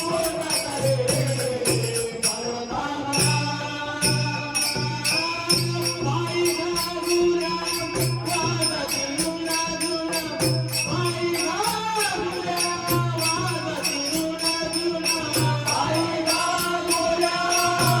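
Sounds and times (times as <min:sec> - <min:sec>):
drum beat: 0:00.0 - 0:18.0
hand cymbals clinking: 0:00.0 - 0:18.0.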